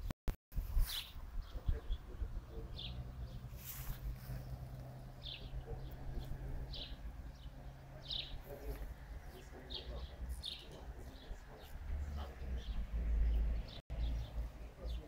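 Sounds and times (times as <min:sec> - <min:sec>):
bird chirping: 0:00.8 - 0:15.0.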